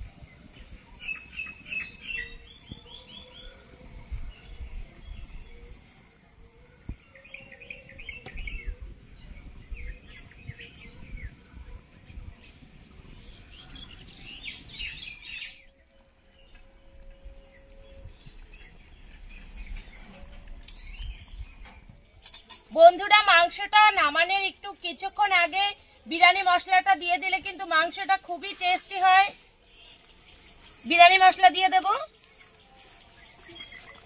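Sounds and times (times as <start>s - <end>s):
small birds chirping: 0.0s - 23.3s, 24.4s - 34.0s.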